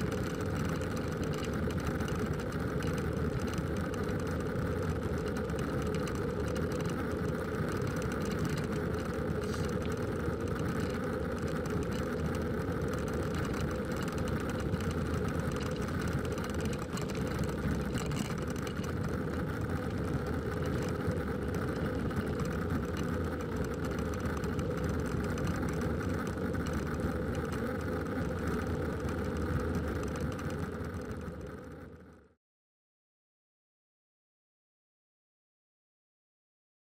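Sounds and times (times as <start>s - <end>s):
bicycle rolling on asphalt: 0.0s - 32.4s.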